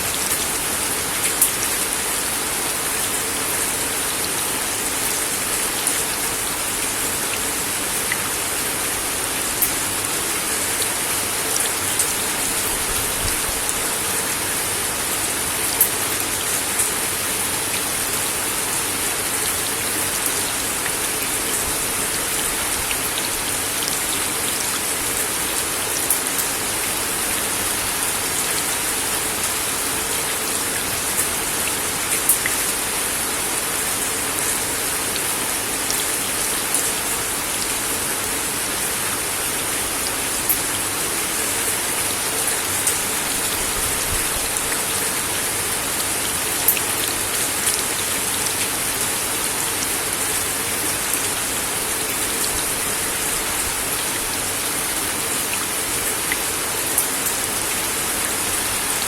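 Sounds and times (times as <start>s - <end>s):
rain on a wooden deck: 0.0s - 59.0s.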